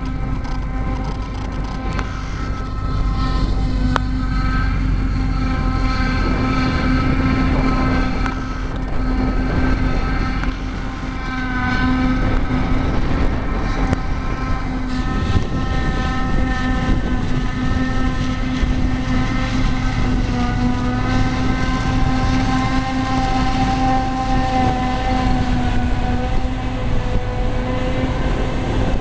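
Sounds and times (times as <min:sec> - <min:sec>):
harvester engine hum: 0:00.0 - 0:29.0
high machine whine: 0:00.0 - 0:29.0.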